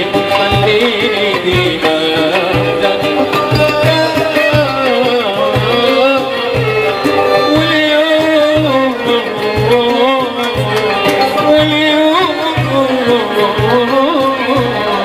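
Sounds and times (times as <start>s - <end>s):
folk music melody: 0.0s - 15.0s
hand drum beats: 0.0s - 15.0s.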